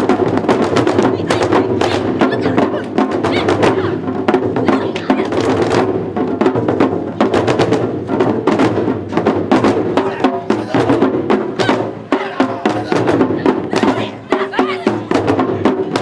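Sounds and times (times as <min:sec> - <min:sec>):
dance music with drums: 0:00.0 - 0:16.0.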